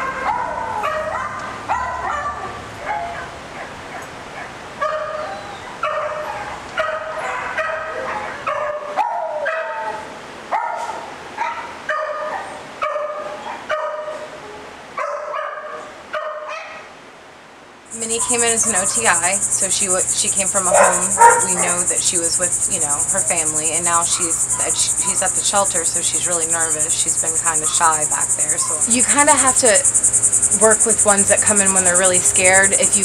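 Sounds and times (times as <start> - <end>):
dogs barking and yipping: 0.0 - 14.4, 15.0 - 16.9, 17.9 - 33.0.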